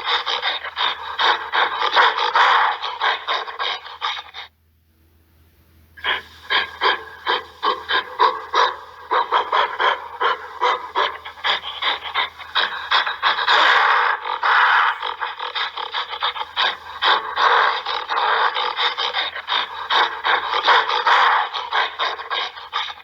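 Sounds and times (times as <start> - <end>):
gorilla panting: 0.0 - 4.5, 6.0 - 23.0.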